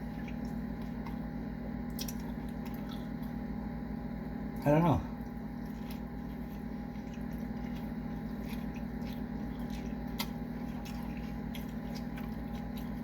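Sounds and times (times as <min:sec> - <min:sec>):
person chewing: 0:00.0 - 0:03.5, 0:05.2 - 0:13.0.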